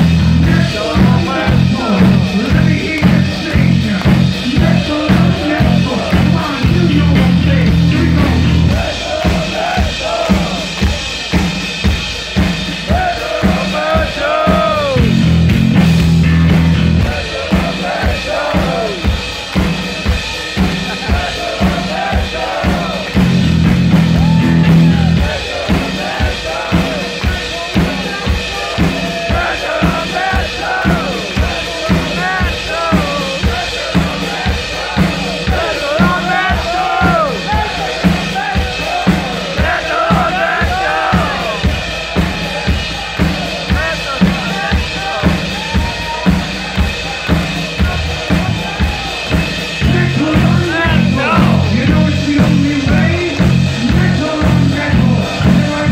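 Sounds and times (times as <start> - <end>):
driving drum beat: 0.0 - 55.9
loud bass and guitar chords: 0.0 - 55.9.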